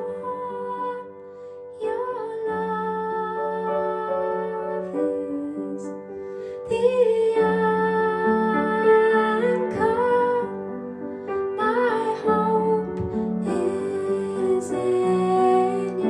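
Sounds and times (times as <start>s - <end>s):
person singing with vibrato: 0.0s - 10.8s, 11.6s - 16.0s.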